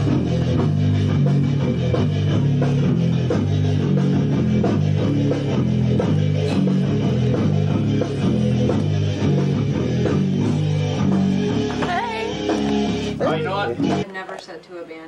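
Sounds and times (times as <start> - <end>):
electric bass guitar rock line: 0.0 - 14.0.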